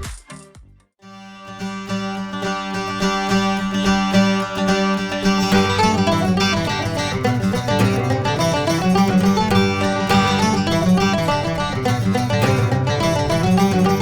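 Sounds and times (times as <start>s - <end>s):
plucked-string tune: 1.0s - 14.0s.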